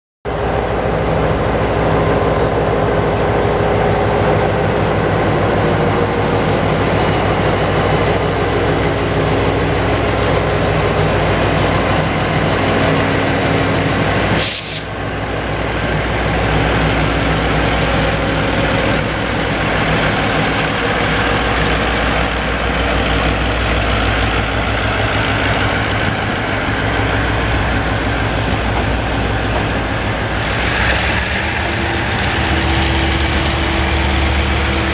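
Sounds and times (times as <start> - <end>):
locomotive low hum: 0.3 - 34.9.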